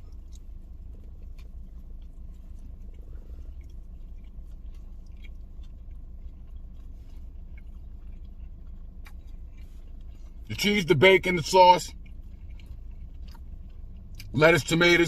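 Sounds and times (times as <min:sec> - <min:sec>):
low hum: 0:00.0 - 0:15.0
person chewing food: 0:00.0 - 0:15.0.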